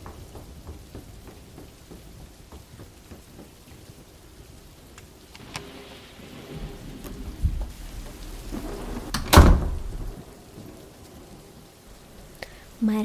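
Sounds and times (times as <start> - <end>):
thunder rumble and crack: 0.0 - 12.9
steady rain: 0.0 - 13.0.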